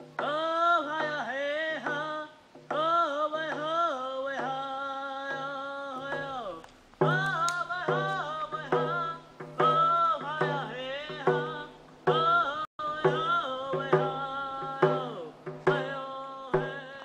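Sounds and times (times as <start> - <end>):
solo singing voice: 0.0 - 17.0.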